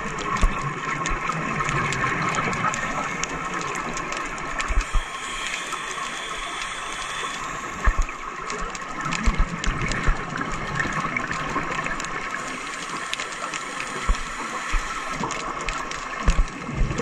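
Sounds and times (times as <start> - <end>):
divers' bubbling: 0.0 - 17.0
underwater watery rush: 0.0 - 17.0.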